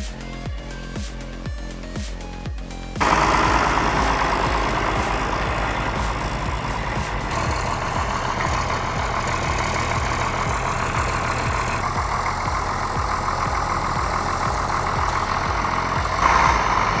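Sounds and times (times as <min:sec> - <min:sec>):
heavy vehicle engine running: 0:03.0 - 0:17.0.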